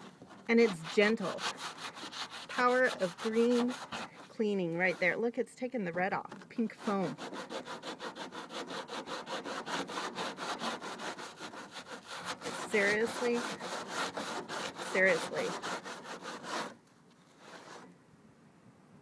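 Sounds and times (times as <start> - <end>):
sponge scrubbing ribbed surface: 0.0 - 5.6, 6.2 - 17.9.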